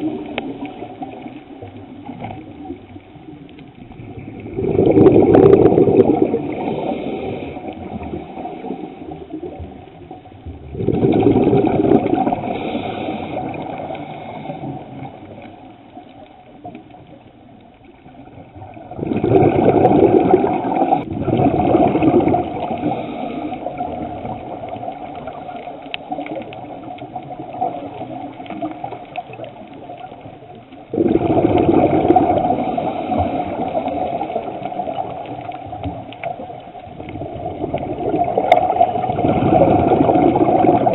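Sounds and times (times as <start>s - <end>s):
diver's exhaled bubbles underwater: 0.0s - 40.9s.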